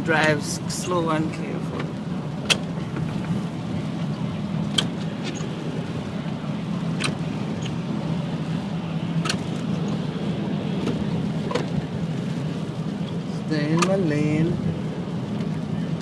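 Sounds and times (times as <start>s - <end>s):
tyre and engine hum: 0.0s - 16.0s.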